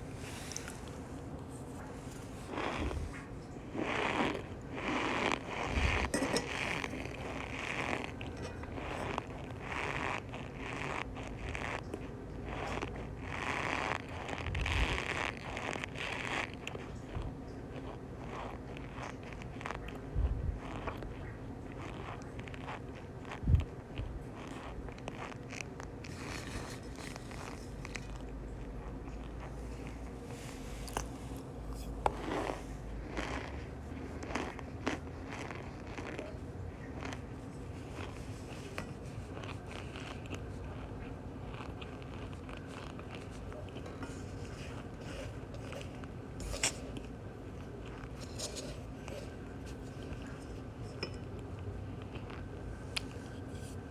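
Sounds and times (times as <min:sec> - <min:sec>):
low steady hum: 0:00.0 - 0:53.9
cornstarch squeaky crunching: 0:02.2 - 0:53.9.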